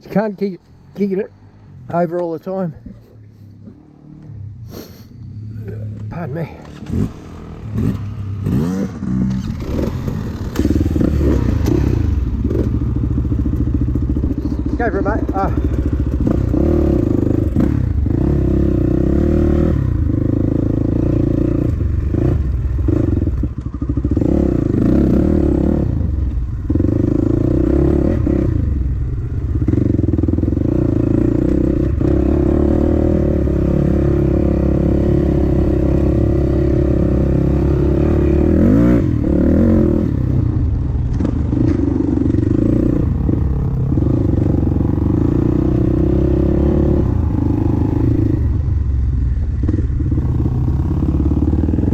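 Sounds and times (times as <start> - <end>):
dirt bike engine revving: 3.7 - 48.6.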